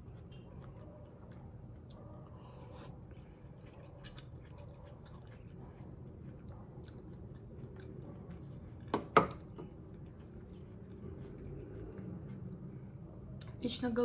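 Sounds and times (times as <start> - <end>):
quiet chewing: 0.0 - 13.6.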